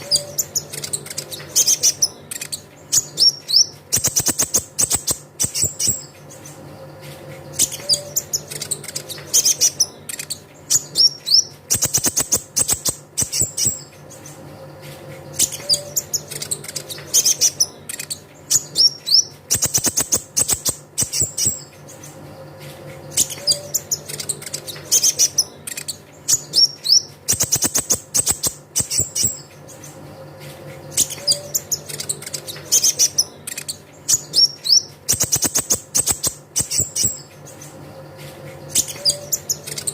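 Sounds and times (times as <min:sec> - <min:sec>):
bird twittering trills and chirps: 0:00.0 - 0:39.9.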